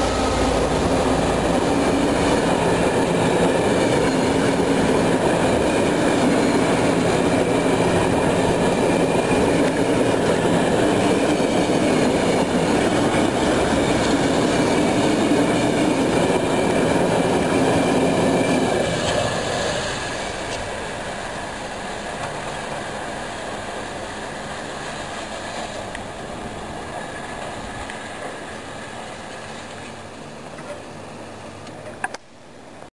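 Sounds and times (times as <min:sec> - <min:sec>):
freight train rolling past: 0:00.0 - 0:32.1.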